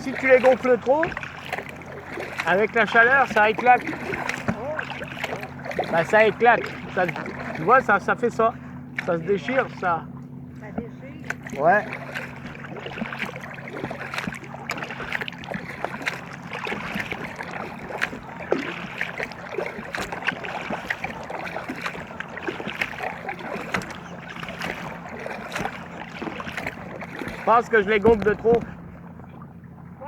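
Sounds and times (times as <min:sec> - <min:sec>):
water splashing around kayak: 0:00.0 - 0:30.0.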